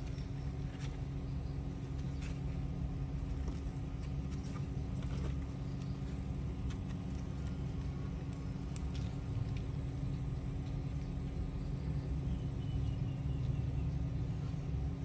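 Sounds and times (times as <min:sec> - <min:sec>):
low mechanical hum and rumble: 0:00.0 - 0:15.0.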